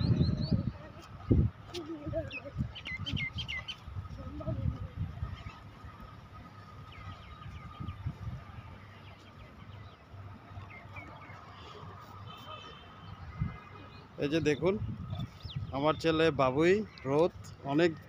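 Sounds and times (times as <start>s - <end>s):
birds chirping: 0.0s - 1.1s, 1.9s - 18.0s.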